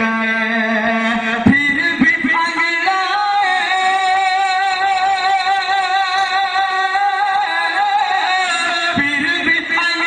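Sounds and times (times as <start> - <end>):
man singing into a microphone: 0.0 - 10.0.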